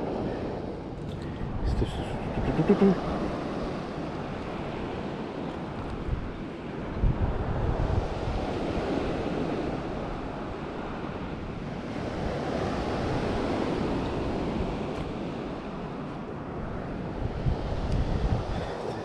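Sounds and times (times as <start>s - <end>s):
sea waves washing on shore: 0.0s - 19.0s
wind rumbling on microphone: 0.0s - 19.0s.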